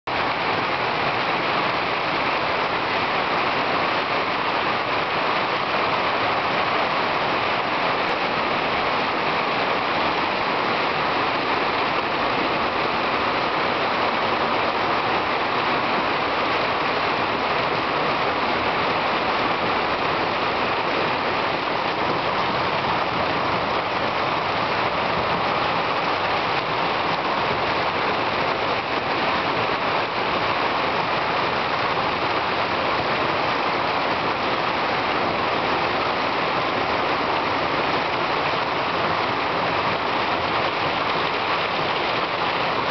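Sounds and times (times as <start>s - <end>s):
heavy rain on garden: 0.0s - 42.9s
rain on a plastic roof: 0.0s - 42.9s.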